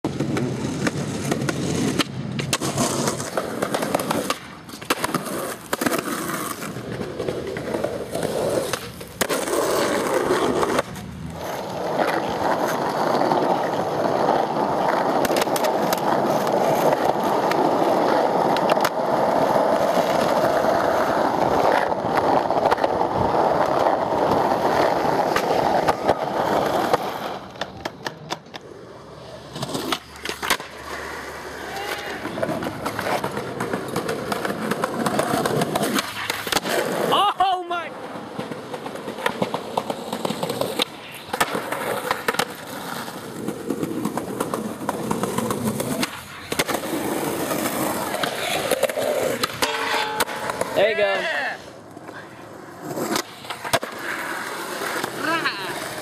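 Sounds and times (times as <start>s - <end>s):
skateboard wheels rolling on asphalt: 0.0s - 56.0s
skateboard clacking on ground: 0.1s - 56.0s.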